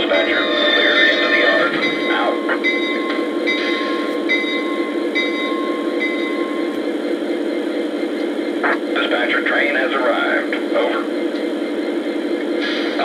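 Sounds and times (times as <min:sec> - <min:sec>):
model train diesel rumble: 0:00.0 - 0:13.0.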